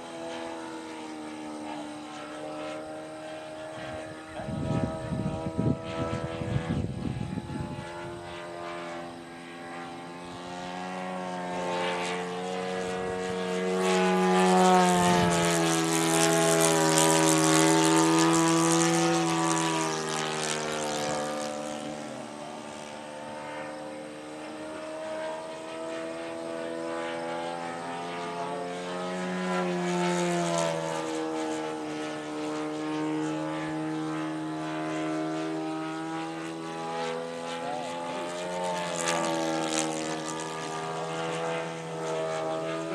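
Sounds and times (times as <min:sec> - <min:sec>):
model airplane flying past: 0:00.0 - 0:42.9.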